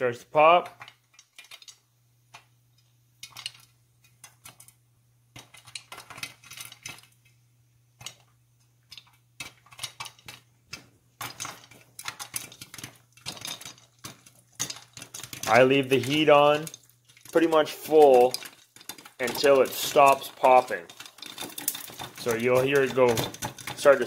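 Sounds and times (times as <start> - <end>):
popcorn popping in covered pot: 0.0 - 24.0.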